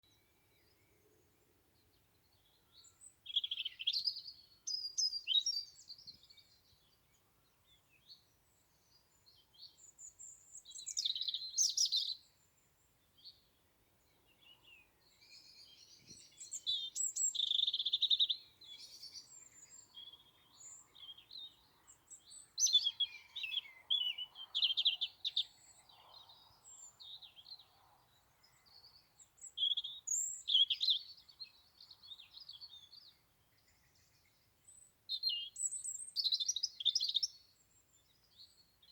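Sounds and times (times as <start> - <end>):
other birds calling faintly: 0.0 - 38.9.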